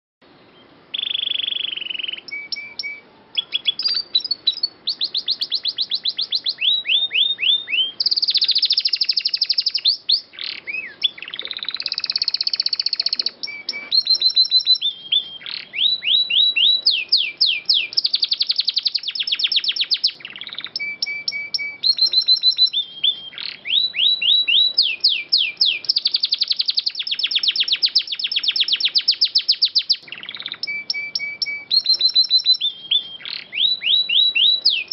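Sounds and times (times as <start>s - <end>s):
canary singing trills: 0.3s - 34.9s.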